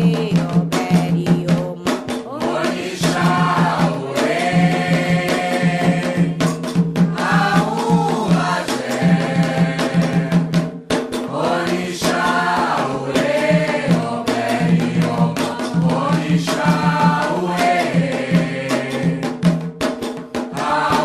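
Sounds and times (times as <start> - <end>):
struck percussion beat: 0.0 - 21.0
chorus singing a ritual chant: 2.3 - 19.6, 20.5 - 21.0.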